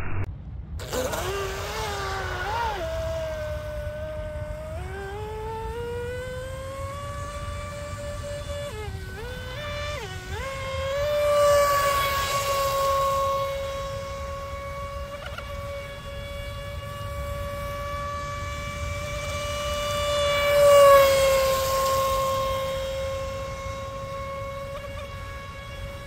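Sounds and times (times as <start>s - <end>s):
rc boat electric motor whining: 0.8s - 26.0s.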